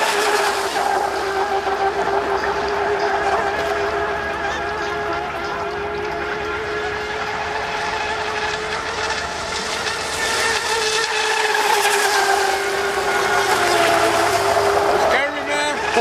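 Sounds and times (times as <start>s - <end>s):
electric motor high whine: 0.0s - 16.0s.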